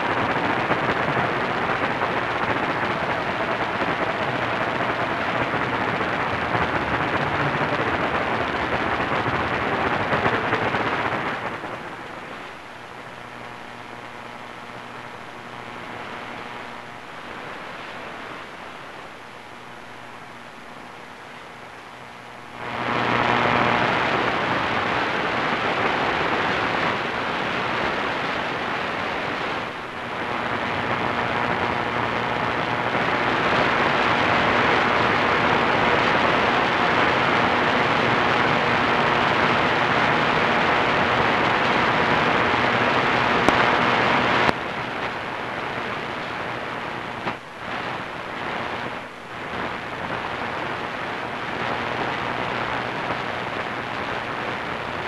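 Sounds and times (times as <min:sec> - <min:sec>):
radio static hiss: 0:00.0 - 0:55.0.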